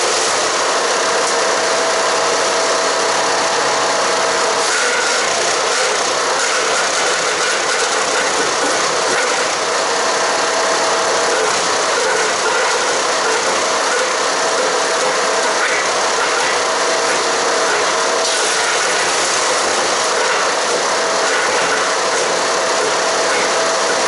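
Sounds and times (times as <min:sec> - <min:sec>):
wood chipper running: 0:00.0 - 0:24.0.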